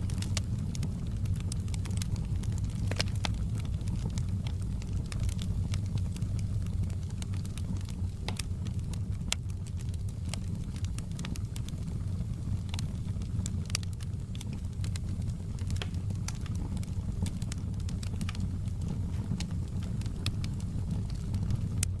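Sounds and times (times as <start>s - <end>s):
fire crackling in fireplace: 0.0s - 22.0s.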